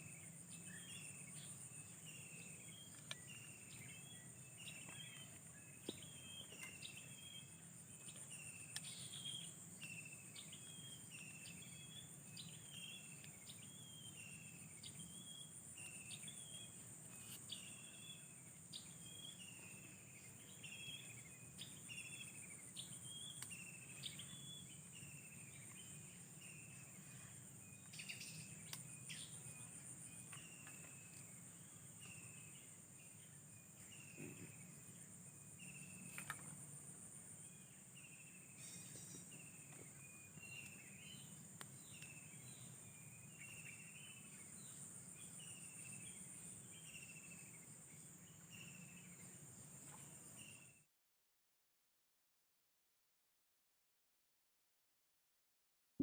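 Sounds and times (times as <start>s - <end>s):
insects trilling: 0.0s - 50.7s
bird chirps: 0.0s - 50.9s.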